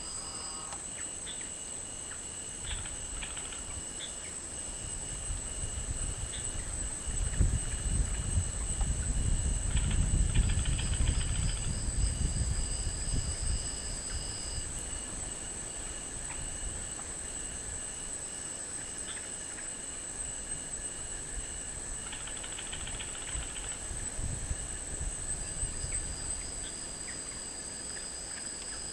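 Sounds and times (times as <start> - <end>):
high continuous insect whine: 0.0 - 28.9
insects calling in rapid pulses: 0.0 - 28.9
rattling insect trill: 0.0 - 28.9.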